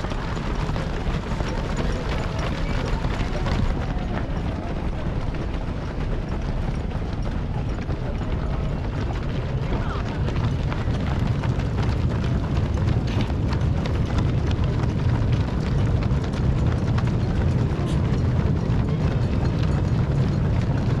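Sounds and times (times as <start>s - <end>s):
runners' shoes slapping on road: 0.0s - 21.0s.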